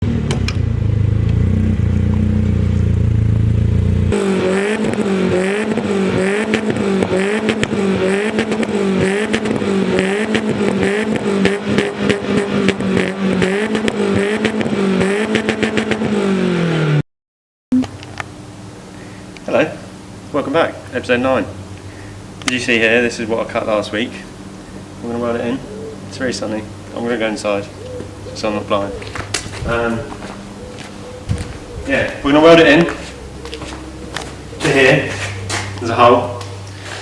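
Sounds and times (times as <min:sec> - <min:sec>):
car engine revving: 0:00.0 - 0:17.0, 0:21.1 - 0:37.0.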